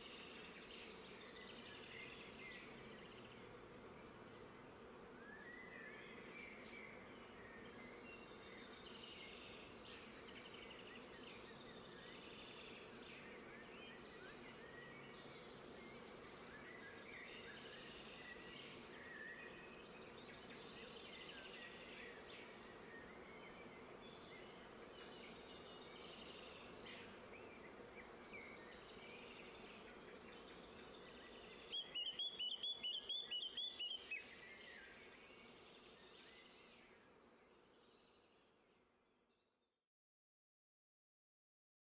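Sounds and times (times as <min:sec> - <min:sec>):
birds chirping and twittering: 0:00.0 - 0:39.4.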